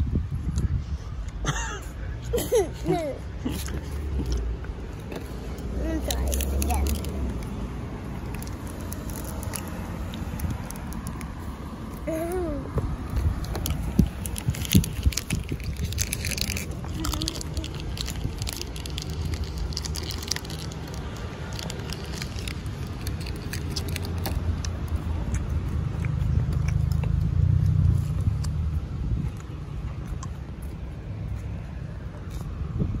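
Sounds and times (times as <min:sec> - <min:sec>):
crunchy chewing of hard candy: 0:03.4 - 0:12.1, 0:13.0 - 0:32.7.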